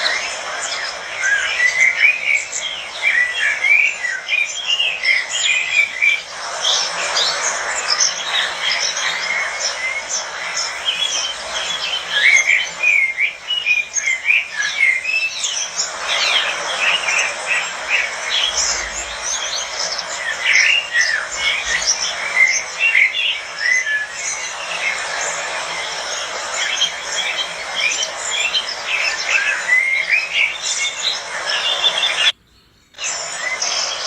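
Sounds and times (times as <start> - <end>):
lovebirds chirping and chattering: 0.0 - 34.0.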